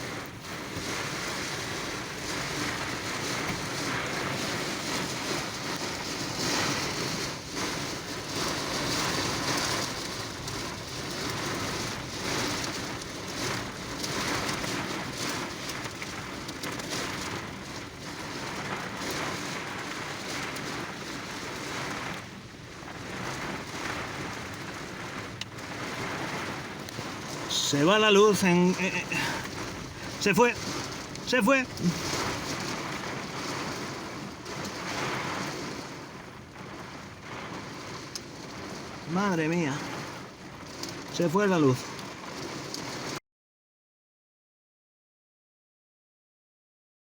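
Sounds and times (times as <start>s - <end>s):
hail and heavy rain clattering: 0.0s - 43.2s.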